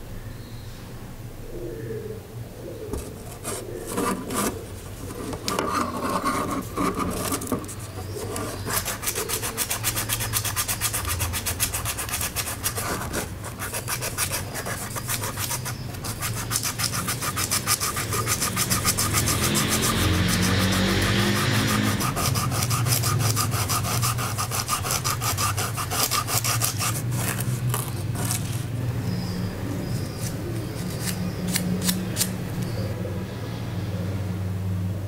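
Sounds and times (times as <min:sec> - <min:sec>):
sandpaper scraping metal blade: 0:03.1 - 0:28.7, 0:30.0 - 0:32.8.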